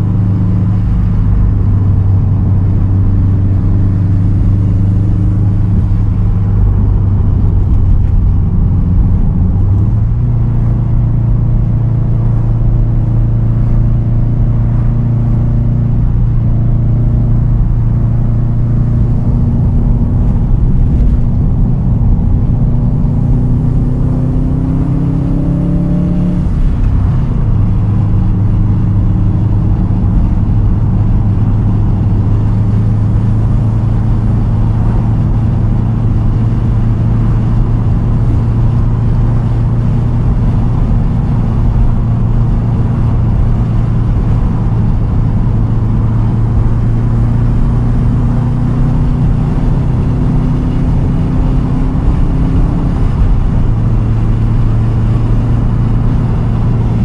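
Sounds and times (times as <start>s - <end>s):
car engine exhaust drone: 0.0s - 57.0s.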